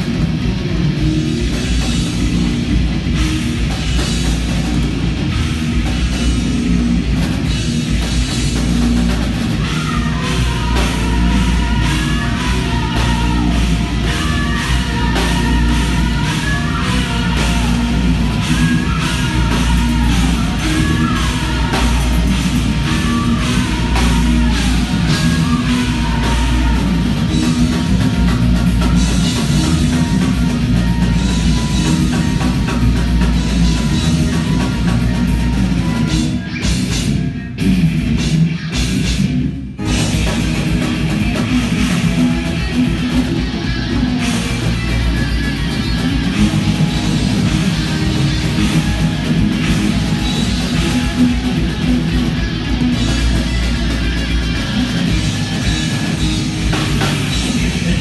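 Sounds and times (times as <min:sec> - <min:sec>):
heavy metal band playing: 0:00.0 - 0:58.0
melodic guitar line: 0:00.0 - 0:58.0.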